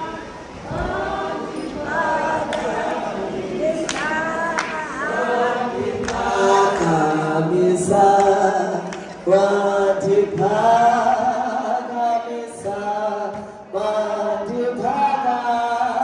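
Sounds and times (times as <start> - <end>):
women singing a hymn: 0.0 - 16.0.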